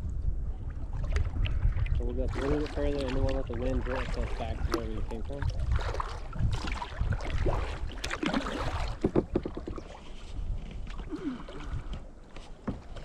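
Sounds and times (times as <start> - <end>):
wind rumble on microphone: 0.0 - 13.0
paddle dipping and splashing: 0.6 - 13.0.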